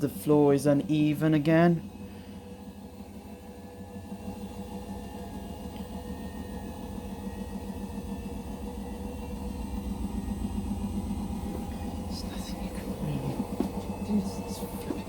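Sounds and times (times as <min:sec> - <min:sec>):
washing machine spinning and shaking: 0:00.0 - 0:15.0.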